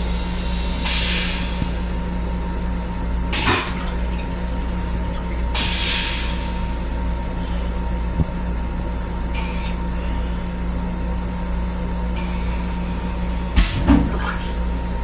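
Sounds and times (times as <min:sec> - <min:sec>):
railcar low hum: 0:00.0 - 0:15.0.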